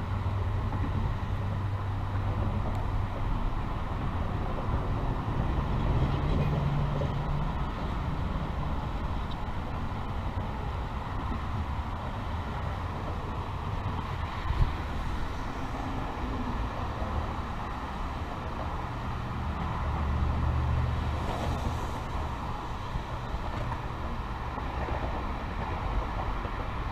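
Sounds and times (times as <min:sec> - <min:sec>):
road traffic noise: 0:00.0 - 0:26.9.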